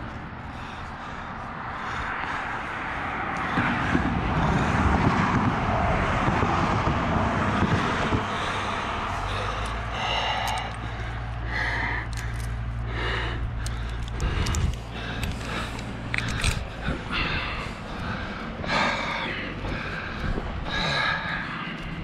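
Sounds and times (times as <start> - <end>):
low engine drone: 0.0 - 22.0
vehicle passing: 0.0 - 22.0.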